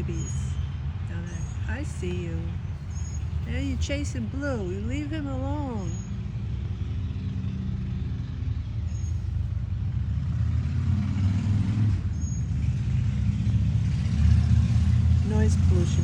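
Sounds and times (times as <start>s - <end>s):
large vehicle engine running: 0.0s - 16.0s.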